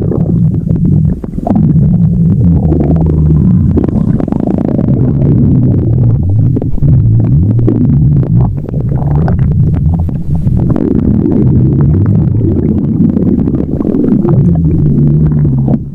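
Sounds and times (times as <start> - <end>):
stomach growling: 0.0 - 15.9.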